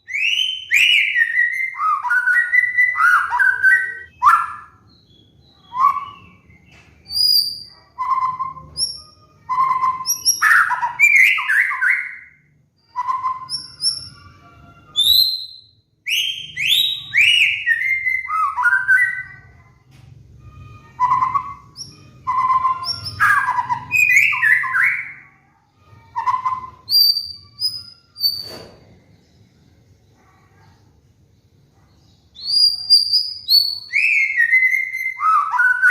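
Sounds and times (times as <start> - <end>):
bird singing varied song: 0.0 - 35.9.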